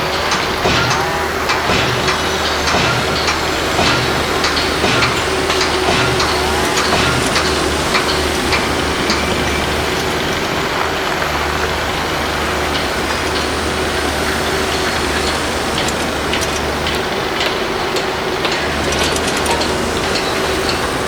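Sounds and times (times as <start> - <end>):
heavy engine droning: 0.0 - 21.0.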